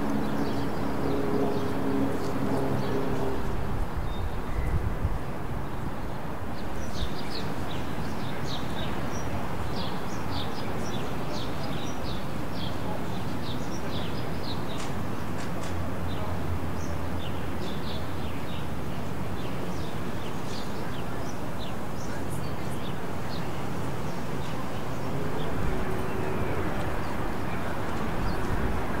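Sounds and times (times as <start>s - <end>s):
city traffic hum: 0.0s - 29.0s.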